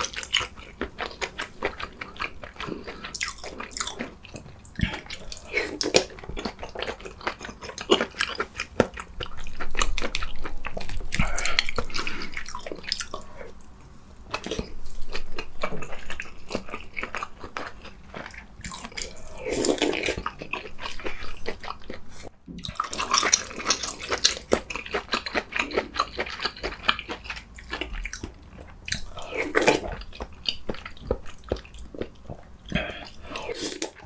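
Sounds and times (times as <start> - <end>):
wet chewing and mouth clicks: 0.0 - 34.0.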